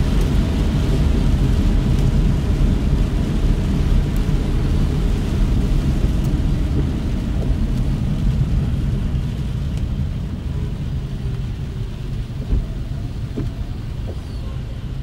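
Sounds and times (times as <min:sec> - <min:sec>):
car engine and road rumble: 0:00.0 - 0:15.0
rain and wet tyres hissing: 0:00.0 - 0:15.0.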